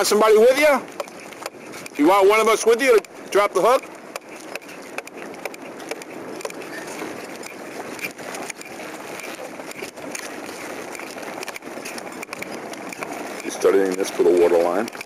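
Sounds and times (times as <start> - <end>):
water lapping around boat: 0.0 - 15.0
small knocks and clicks: 0.9 - 2.0, 2.8 - 15.0.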